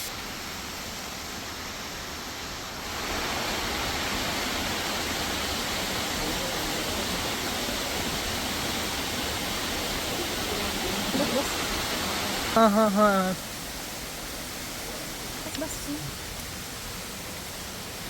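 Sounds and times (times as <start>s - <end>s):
rush of falling water: 0.0s - 18.0s.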